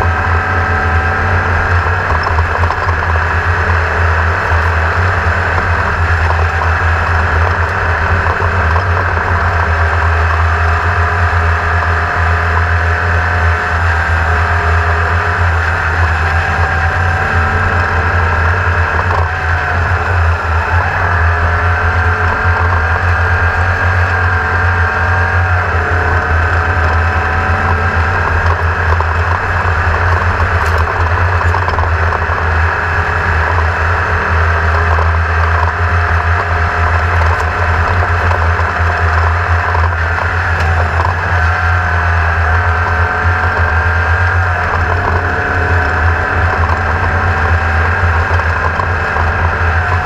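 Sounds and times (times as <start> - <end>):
motor-driven machine running: 0.0 - 50.0
whining tones: 0.0 - 50.0.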